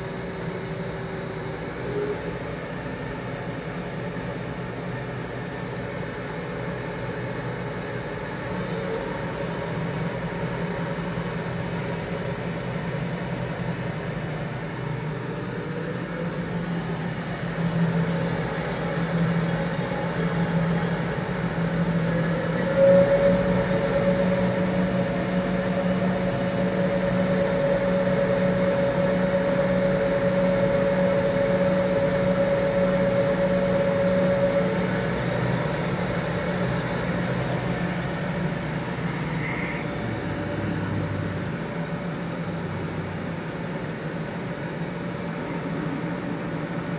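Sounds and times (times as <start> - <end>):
high steady whine: 0.0 - 46.9.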